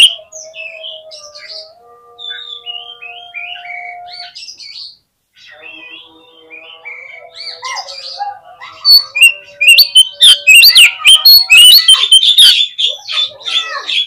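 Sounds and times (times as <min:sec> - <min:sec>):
songbird singing whistles and chirps: 0:00.0 - 0:13.3.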